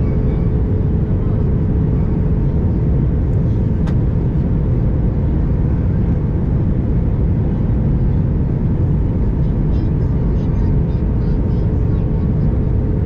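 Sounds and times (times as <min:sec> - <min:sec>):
airliner cabin roar: 0:00.0 - 0:13.0
faint hum: 0:00.0 - 0:13.0.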